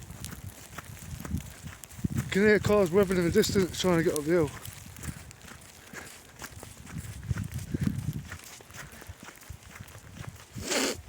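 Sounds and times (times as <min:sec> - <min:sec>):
footsteps crunching on snow: 0:00.0 - 0:11.0.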